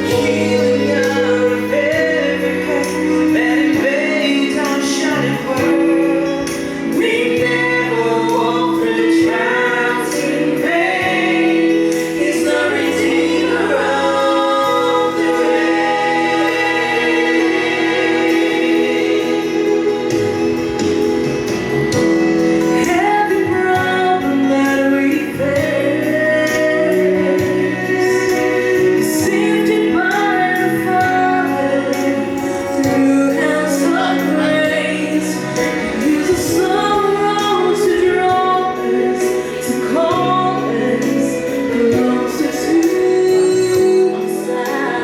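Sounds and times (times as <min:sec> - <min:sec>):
bass line: 0:00.0 - 0:44.6
vocal group singing in harmony: 0:00.0 - 0:45.0.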